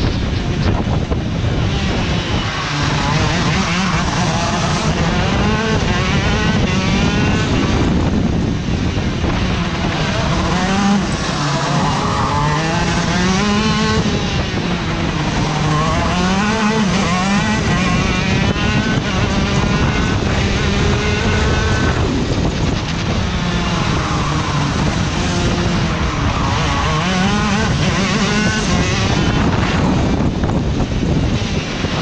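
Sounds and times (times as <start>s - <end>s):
racing kart engine: 0.0s - 32.0s.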